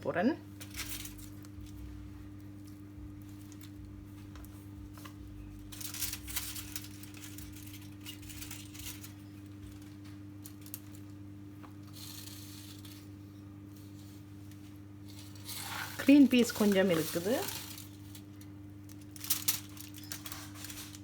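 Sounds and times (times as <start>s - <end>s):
low electrical hum: 0.0s - 21.0s
vegetables rustling and clicking: 2.6s - 13.1s, 13.7s - 21.0s.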